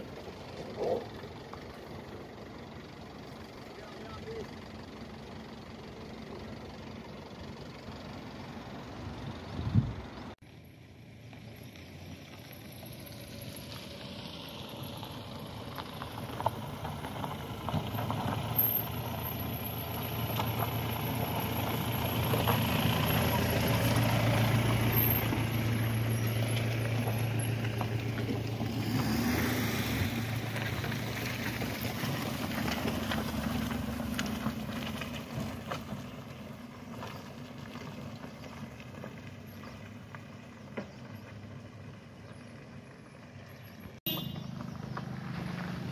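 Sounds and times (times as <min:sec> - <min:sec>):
car engine driving by: 0:00.0 - 0:45.9.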